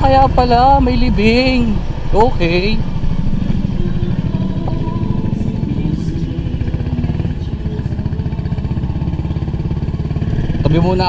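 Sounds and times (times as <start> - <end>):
road and wind noise: 0.0 - 11.0
scooter engine running: 0.0 - 11.0.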